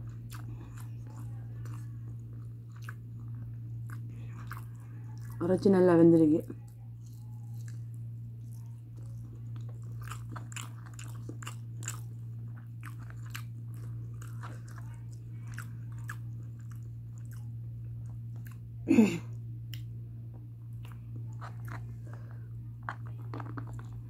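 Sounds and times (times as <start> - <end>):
person chewing food: 0.0 - 5.4, 6.6 - 24.0
steady low hum: 0.0 - 24.0.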